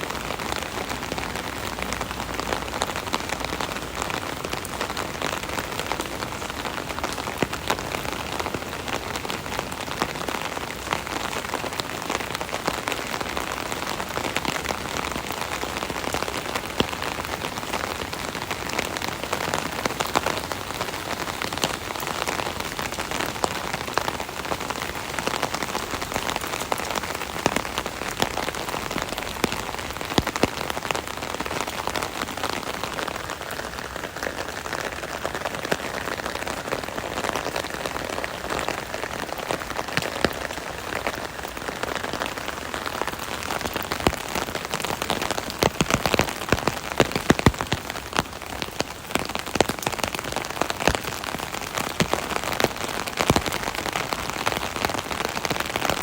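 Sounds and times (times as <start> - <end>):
rain drumming on umbrella: 0.0 - 56.0.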